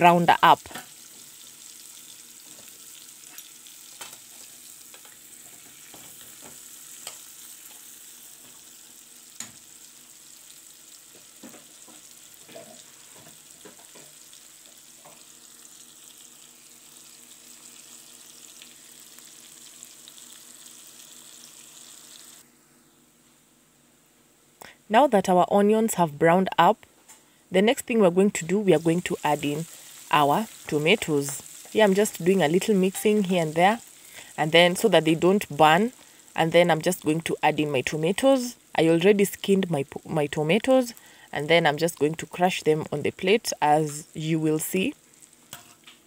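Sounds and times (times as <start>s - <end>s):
onions sizzling in hot oil: 0.0s - 22.4s, 27.8s - 46.0s.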